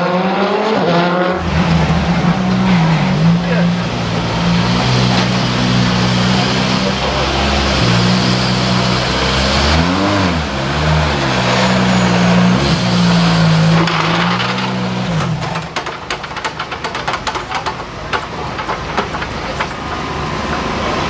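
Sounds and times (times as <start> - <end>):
car engine idling with throttle blips: 1.3 - 21.0.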